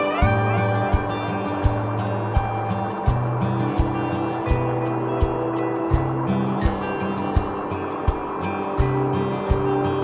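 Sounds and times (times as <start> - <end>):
background music with steady beat: 0.0 - 10.0
sliding guitar line: 0.0 - 10.0.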